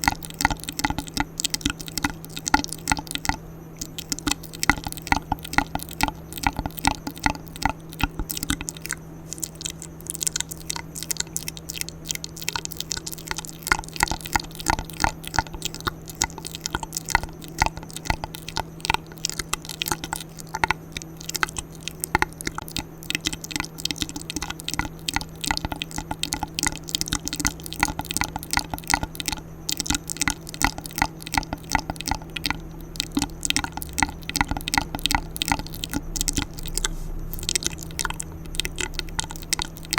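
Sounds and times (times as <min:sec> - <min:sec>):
wet mouth clicks and smacks: 0:00.0 - 0:39.9.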